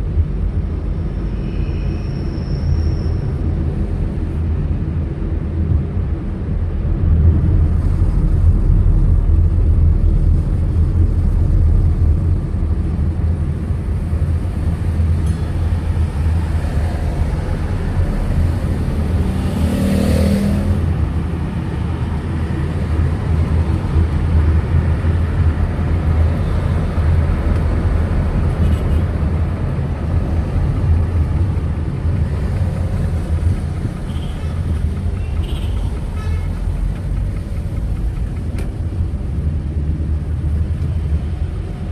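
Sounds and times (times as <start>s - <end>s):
car driving on road: 0.0s - 41.9s.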